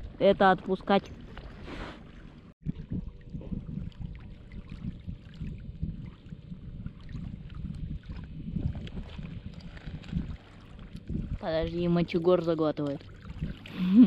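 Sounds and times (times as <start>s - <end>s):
faint steady hum: 0.0s - 14.0s
river water lapping: 0.0s - 14.0s
wind buffeting microphone: 2.4s - 14.0s.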